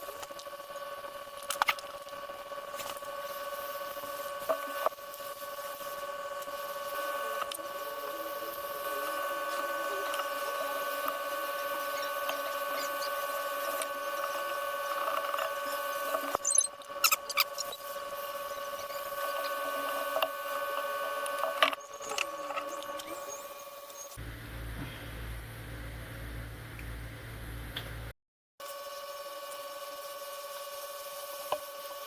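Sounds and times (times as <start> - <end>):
small electric machine humming: 0.0 - 32.0.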